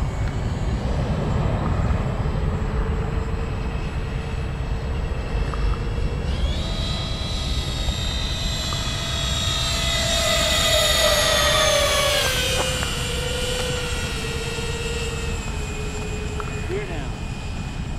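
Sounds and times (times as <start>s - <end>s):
electric ducted fans whining: 0.0s - 17.9s
low rumbling noise: 0.0s - 17.9s.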